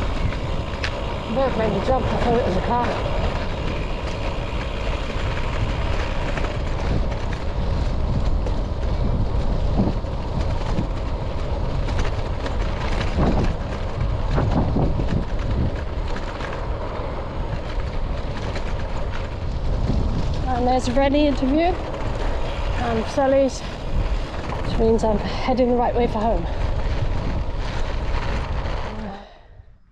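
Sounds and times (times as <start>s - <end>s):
bike tyres rumbling on rough road: 0.0s - 29.9s
wind rushing over microphone: 0.0s - 29.9s.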